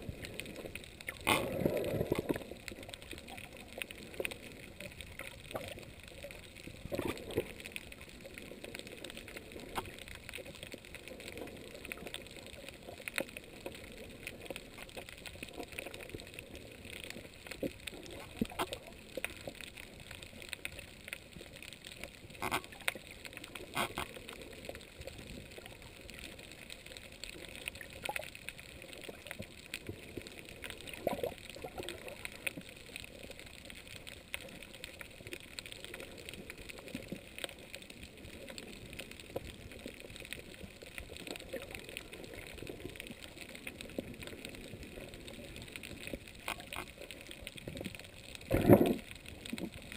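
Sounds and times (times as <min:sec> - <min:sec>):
small clicks and crackles: 0:00.0 - 0:49.9.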